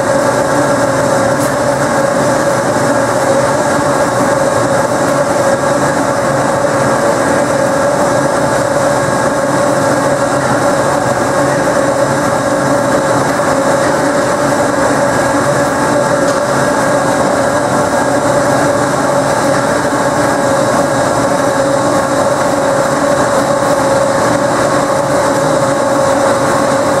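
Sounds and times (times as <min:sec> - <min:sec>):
steady machine whine: 0:00.0 - 0:27.0
trommel screen machine running: 0:00.0 - 0:27.0.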